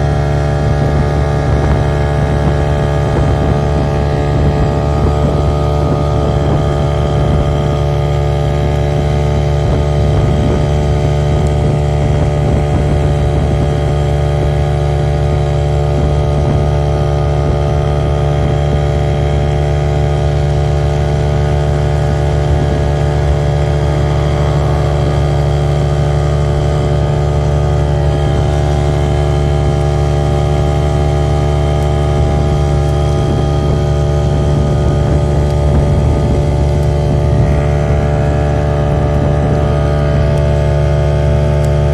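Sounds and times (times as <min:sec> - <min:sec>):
ferry engine drone: 0:00.0 - 0:41.9.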